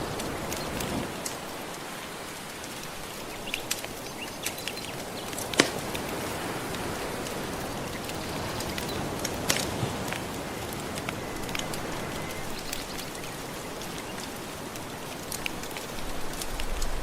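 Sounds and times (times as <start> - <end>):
soft ocean waves: 0.0 - 17.0
wood fire crackling: 0.0 - 17.0.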